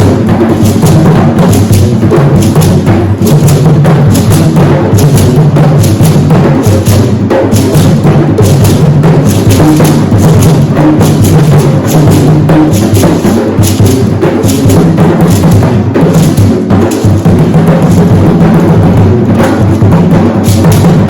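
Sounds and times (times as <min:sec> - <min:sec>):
hand drums playing: 0:00.0 - 0:21.0.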